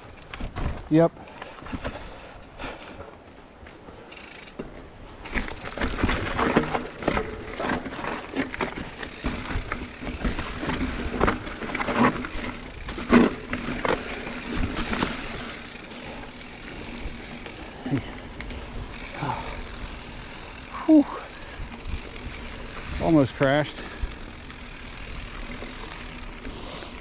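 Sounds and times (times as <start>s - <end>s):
mountain bike rattling on trail: 0.0s - 27.0s.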